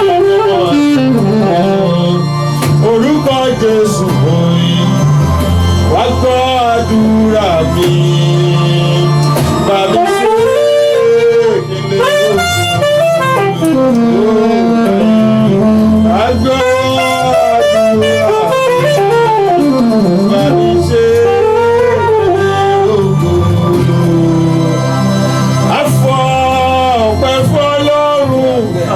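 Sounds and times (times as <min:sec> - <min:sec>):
flowing melody solo: 0:00.0 - 0:28.9
steady bass accompaniment: 0:00.0 - 0:28.9.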